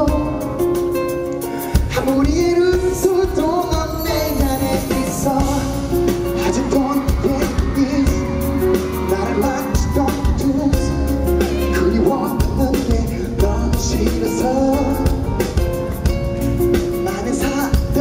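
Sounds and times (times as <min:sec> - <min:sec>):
amplified pop music with beat: 0:00.0 - 0:18.0
person singing: 0:00.0 - 0:18.0.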